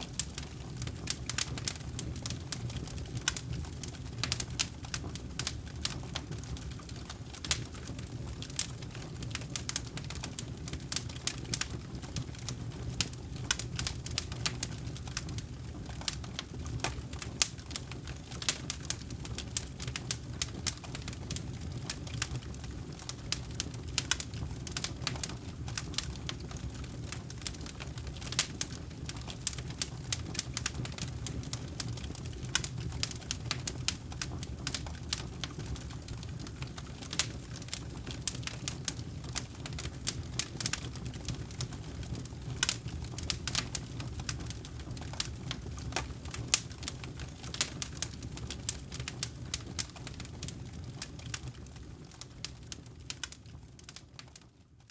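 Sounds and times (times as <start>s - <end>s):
campfire crackling and popping: 0.0s - 54.5s.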